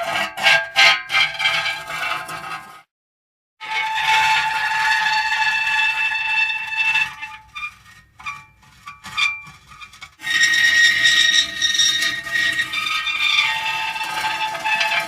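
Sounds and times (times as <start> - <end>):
metal creaking and squealing: 0.0 - 2.7, 3.6 - 15.0.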